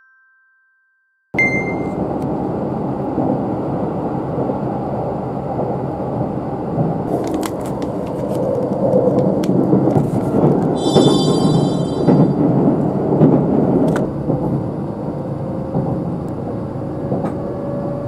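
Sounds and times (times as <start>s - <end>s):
train cabin rumble: 1.7s - 18.0s.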